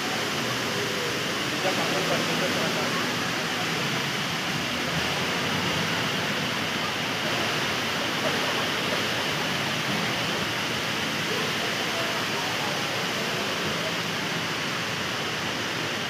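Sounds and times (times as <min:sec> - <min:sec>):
indoor waterfall rushing: 0:00.0 - 0:16.0.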